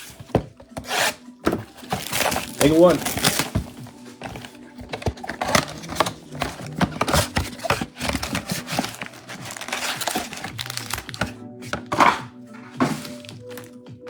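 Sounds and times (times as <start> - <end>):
foil wrappers crinkling and rustling: 0.0 - 12.2, 12.8 - 13.8
card packs clicking and snapping: 0.0 - 13.8.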